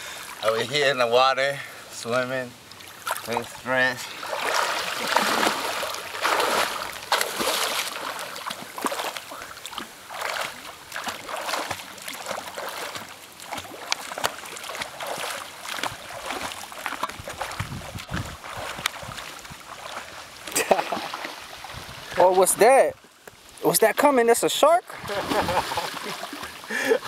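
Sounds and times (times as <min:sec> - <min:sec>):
swimmer splashing water: 0:02.6 - 0:22.9, 0:25.0 - 0:27.0.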